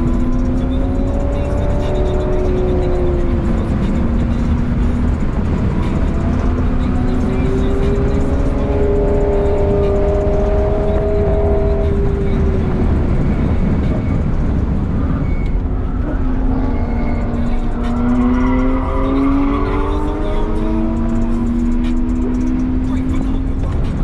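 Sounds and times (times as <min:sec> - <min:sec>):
car engine accelerating: 0:00.0 - 0:24.0
road rumble: 0:00.0 - 0:24.0.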